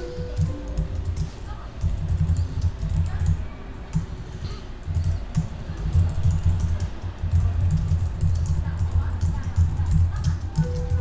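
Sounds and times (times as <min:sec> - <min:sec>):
keyboard typing: 0:00.0 - 0:04.1, 0:04.8 - 0:11.0.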